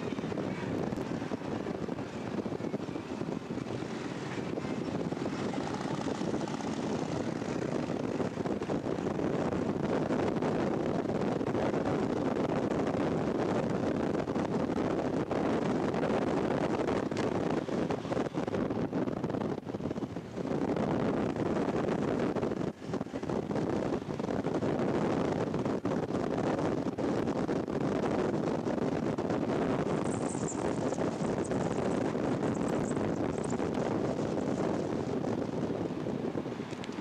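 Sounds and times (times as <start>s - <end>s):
motorcycle engine drone: 0.0s - 37.0s.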